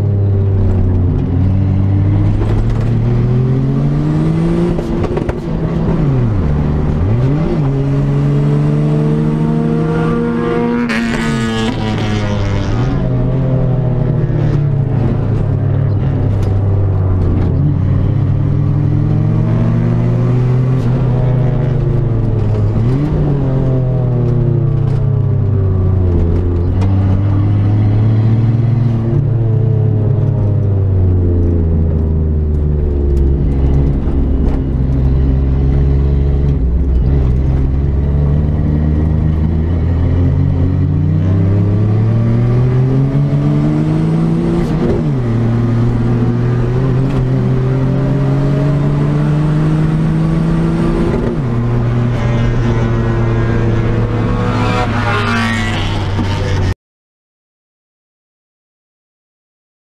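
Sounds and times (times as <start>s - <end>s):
race car engine revving: 0.0s - 25.2s, 31.5s - 56.8s.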